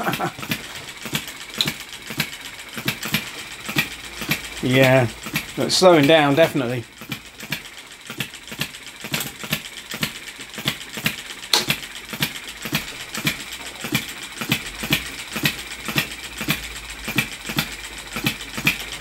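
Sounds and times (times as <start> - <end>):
model engine clattering: 0.0 - 19.0.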